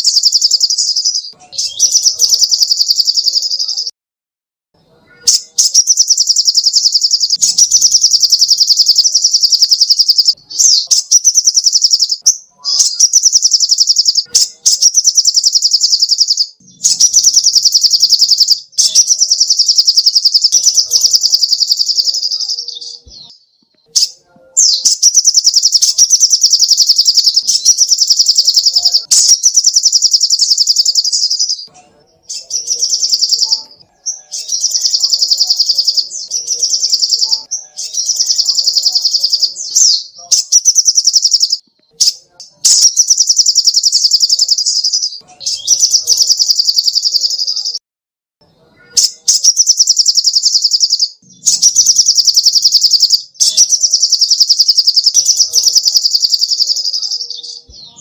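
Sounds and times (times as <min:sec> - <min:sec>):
bird singing high trills: 0:00.0 - 0:03.9, 0:05.0 - 0:47.8.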